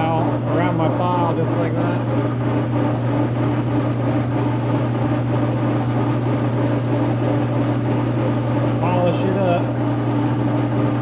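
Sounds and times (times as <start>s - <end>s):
lathe electrical hum: 0.0s - 11.0s.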